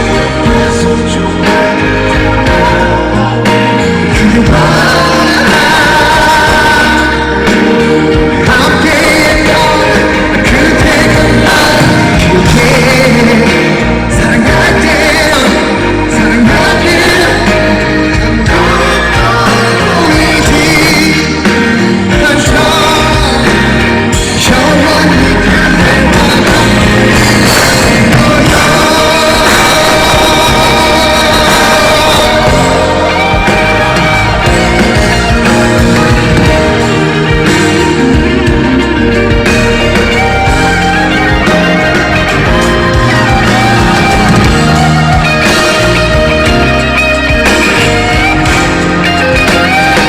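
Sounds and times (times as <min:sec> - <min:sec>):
man singing: 0:00.0 - 0:46.8
band playing: 0:00.0 - 0:50.0.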